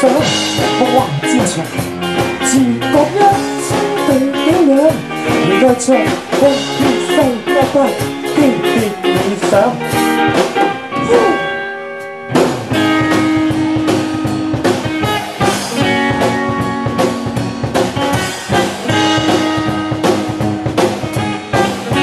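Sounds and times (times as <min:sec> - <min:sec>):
drum kit beat: 0:00.0 - 0:22.0
guitar playing: 0:00.0 - 0:22.0.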